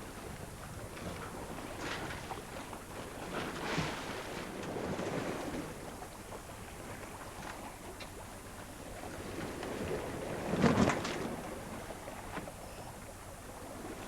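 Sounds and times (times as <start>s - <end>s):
water splashing along hull: 0.0s - 14.0s.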